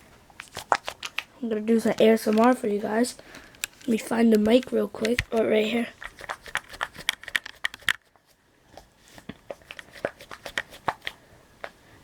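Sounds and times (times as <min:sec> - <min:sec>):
soft clicks and rustles: 0:00.0 - 0:11.9.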